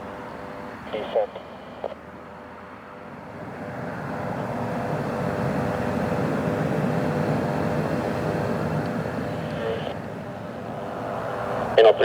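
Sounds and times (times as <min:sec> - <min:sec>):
military aircraft engines roaring: 0:00.0 - 0:12.0.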